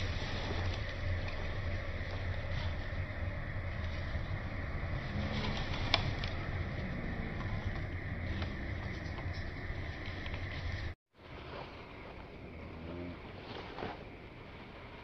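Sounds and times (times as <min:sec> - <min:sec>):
faint crackles: 0:00.0 - 0:15.0.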